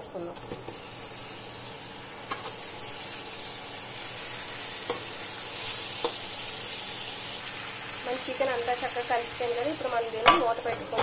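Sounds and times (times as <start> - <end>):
chicken sizzling in oil: 0.4 - 11.0.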